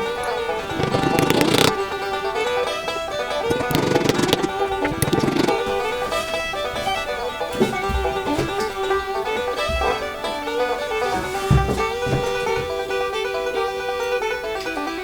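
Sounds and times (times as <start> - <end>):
banjo: 0.0 - 15.0
bluegrass music: 0.0 - 15.0
fiddle: 0.0 - 15.0.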